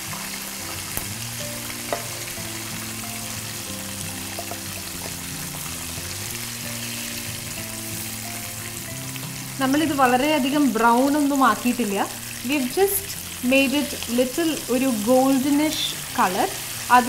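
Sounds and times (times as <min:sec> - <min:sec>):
background music with held notes: 0:00.0 - 0:17.0
chicken sizzling in oil: 0:00.0 - 0:17.0.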